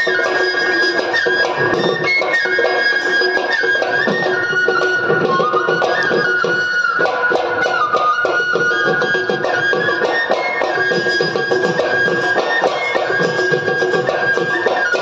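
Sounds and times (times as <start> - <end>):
wind instrument melody: 0.0 - 15.0.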